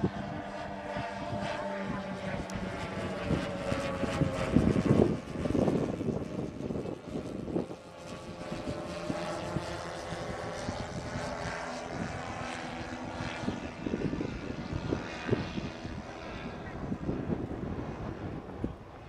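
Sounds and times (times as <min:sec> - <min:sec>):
model aircraft engines running: 0:00.0 - 0:19.0
wind rumbling on microphone: 0:00.0 - 0:19.0.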